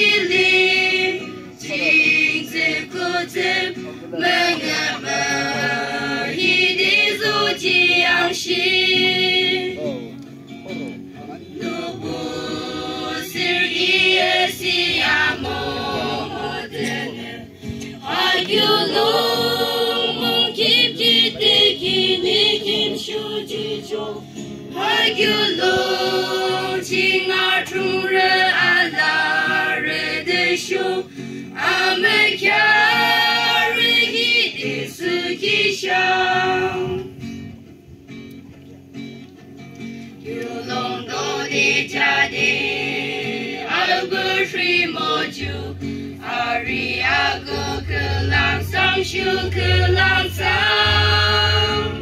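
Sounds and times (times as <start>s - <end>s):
mixed choir singing: 0.0s - 9.8s, 11.5s - 37.1s, 40.2s - 52.0s.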